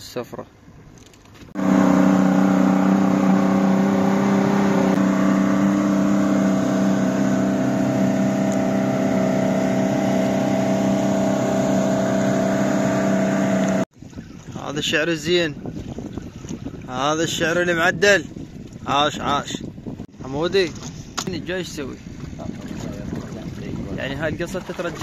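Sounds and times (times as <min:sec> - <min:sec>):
water and wind rushing: 0:00.0 - 0:25.0
outboard motor running: 0:01.3 - 0:25.0.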